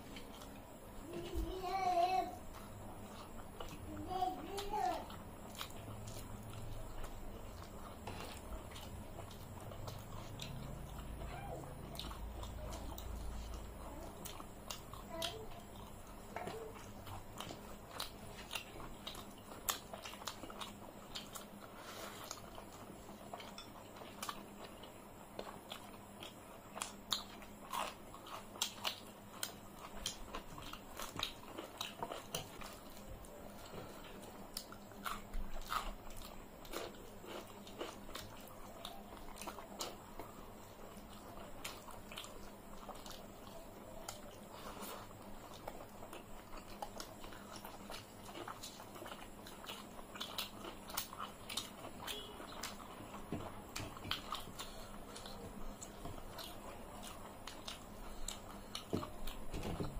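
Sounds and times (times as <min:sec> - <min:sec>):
soft chewing and mouth smacks: 0:02.4 - 0:59.9.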